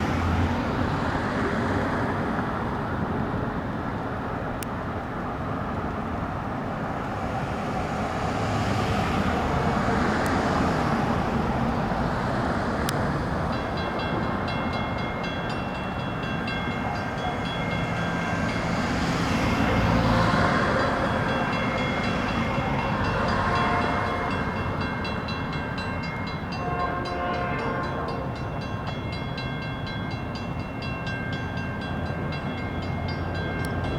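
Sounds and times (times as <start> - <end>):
train passing on rails: 0.0 - 33.9.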